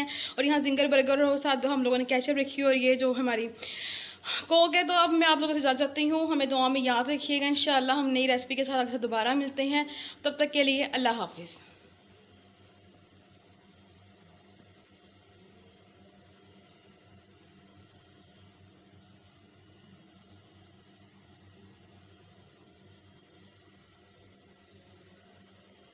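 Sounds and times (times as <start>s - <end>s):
insect trilling: 0.0s - 25.9s.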